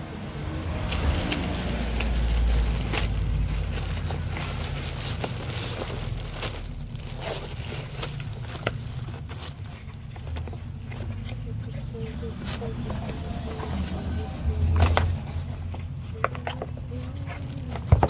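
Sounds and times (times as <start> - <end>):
low handling rumble: 0.0 - 18.0
plastic parcel crinkling: 0.4 - 18.0.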